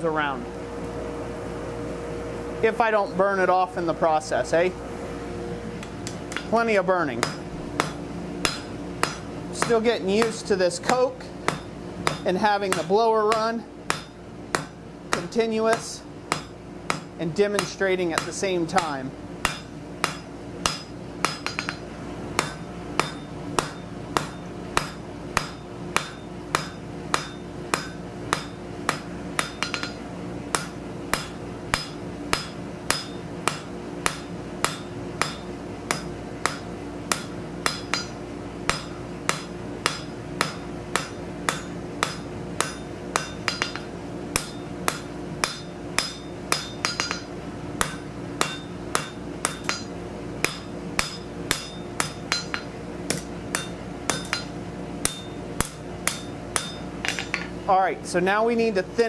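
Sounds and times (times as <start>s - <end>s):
hammer striking steel on anvil: 7.2s - 57.6s.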